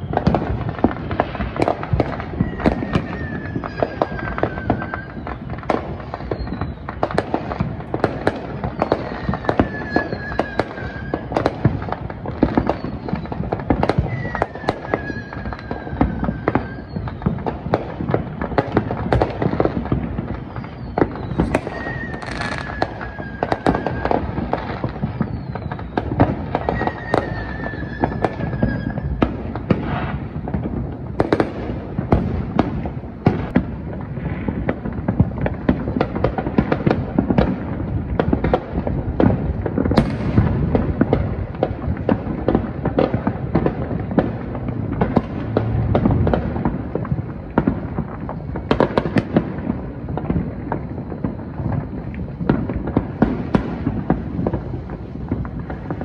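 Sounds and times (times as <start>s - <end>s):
firework whistles: 0.0s - 56.0s
fireworks bangs and crackles: 0.0s - 56.0s.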